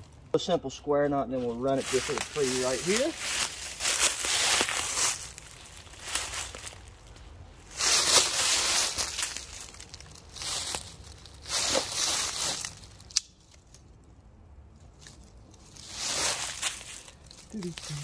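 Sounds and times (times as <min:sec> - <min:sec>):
footsteps crunching dry leaves: 0:01.4 - 0:13.6, 0:14.9 - 0:18.0.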